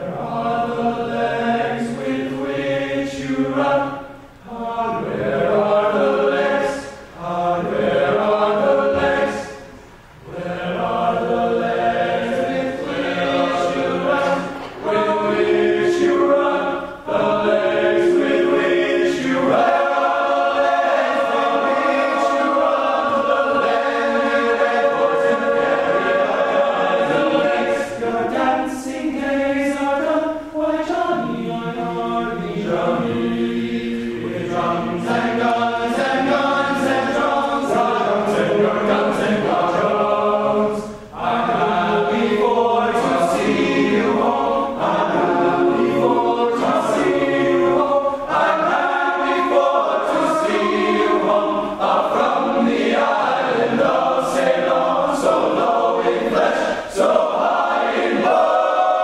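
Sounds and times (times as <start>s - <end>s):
male a cappella group singing: 0.0s - 59.0s.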